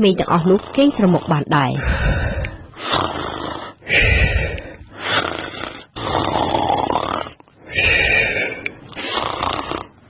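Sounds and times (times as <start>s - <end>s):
person snoring: 0.3s - 10.0s.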